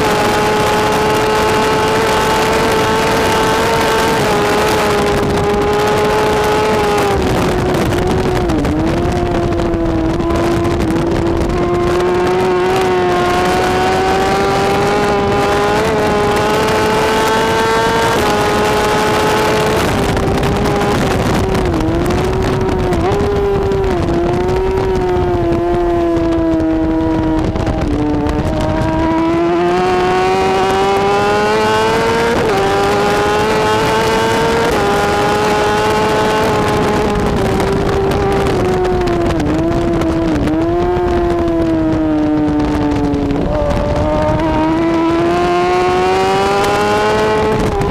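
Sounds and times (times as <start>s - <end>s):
motorcycle engine revving high: 0.0s - 47.9s.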